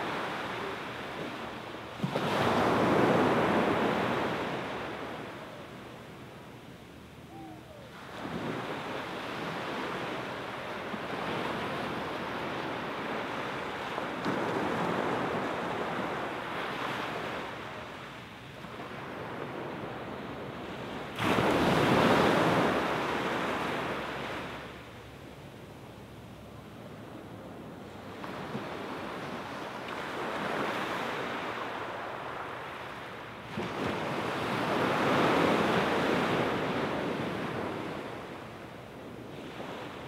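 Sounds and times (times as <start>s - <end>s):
small waves breaking on sand: 0.0s - 5.8s, 7.4s - 24.8s, 27.8s - 40.0s.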